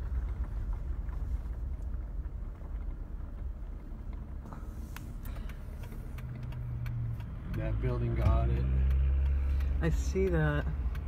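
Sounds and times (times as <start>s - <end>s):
car engine and road noise: 0.0s - 11.0s
faint clicks: 0.2s - 11.0s.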